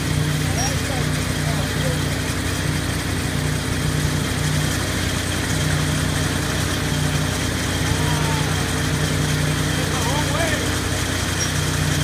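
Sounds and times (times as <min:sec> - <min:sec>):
harvester machine hum: 0:00.0 - 0:12.0.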